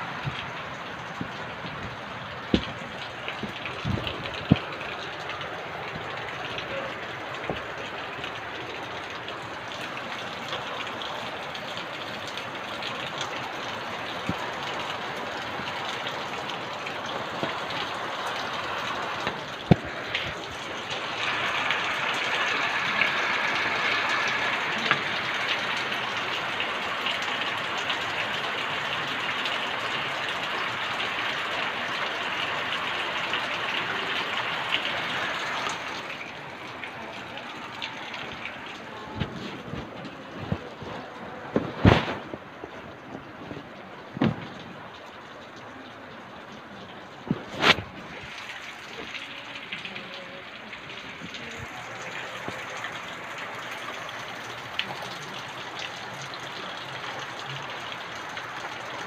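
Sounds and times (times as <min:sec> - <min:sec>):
heavy rain on a corrugated roof: 0:00.0 - 0:59.0.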